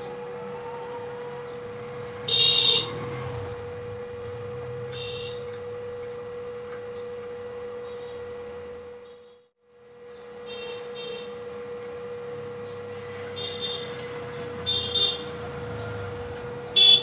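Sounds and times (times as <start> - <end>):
welder electrical hum: 0.0 - 17.0.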